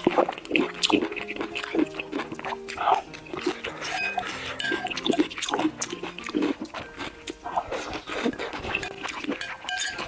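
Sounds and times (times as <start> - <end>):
eating sounds: 0.0 - 10.0
soft background music: 0.0 - 10.0
metal spoon scraping glass bowl: 0.6 - 6.8, 8.0 - 10.0.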